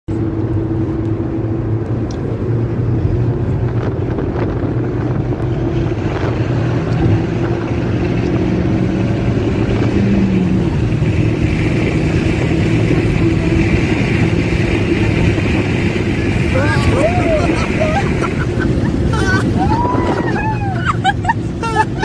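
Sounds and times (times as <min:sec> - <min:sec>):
car engine pulling: 0:00.1 - 0:22.0
wind noise: 0:00.2 - 0:22.0.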